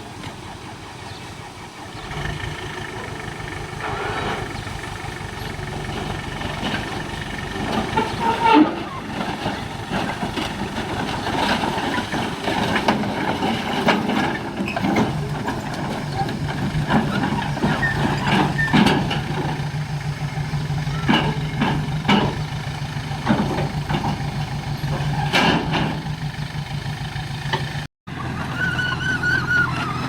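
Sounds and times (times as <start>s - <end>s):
diesel machine engine running: 0.0s - 30.0s
knocks and rattles: 2.1s - 27.9s.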